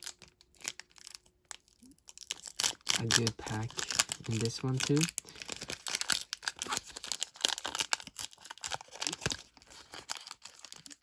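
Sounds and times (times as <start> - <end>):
foil wrapper tearing and crinkling: 0.0 - 11.0.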